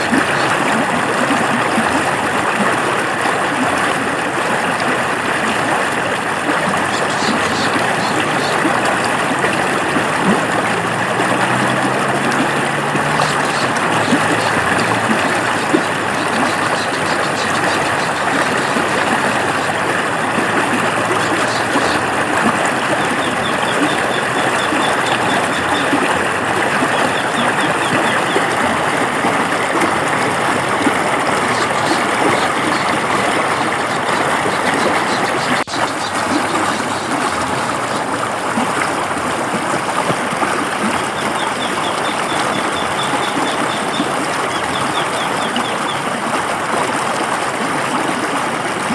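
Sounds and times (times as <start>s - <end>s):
river water babbling: 0.0s - 48.9s.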